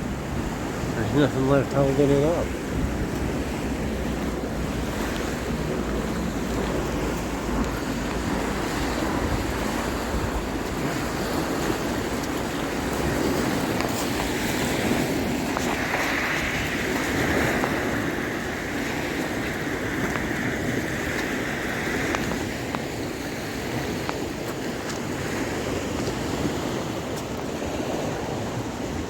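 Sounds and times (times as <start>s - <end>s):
waves washing on shore: 0.0s - 29.0s
wind buffeting microphone: 0.0s - 29.0s.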